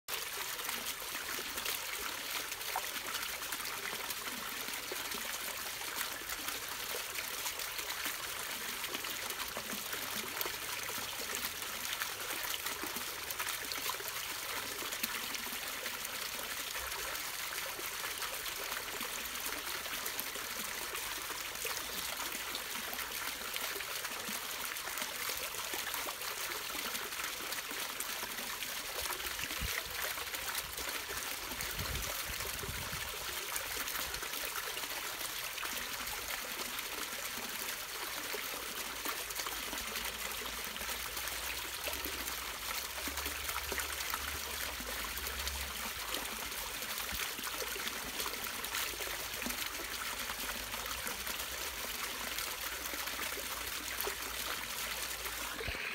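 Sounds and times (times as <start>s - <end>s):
fountain water splashing into pond: 0.1s - 55.9s.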